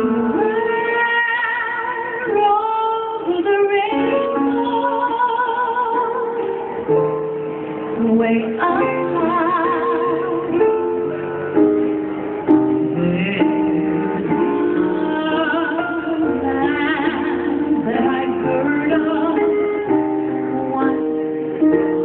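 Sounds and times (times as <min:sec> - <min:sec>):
woman singing: 0:00.0 - 0:06.7, 0:08.0 - 0:11.1, 0:12.7 - 0:22.0
instrumental accompaniment: 0:00.0 - 0:22.0.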